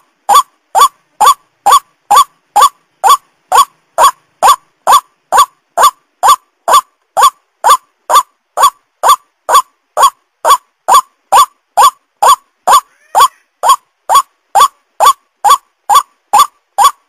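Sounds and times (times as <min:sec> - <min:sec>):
bird call recording: 0:00.0 - 0:17.0.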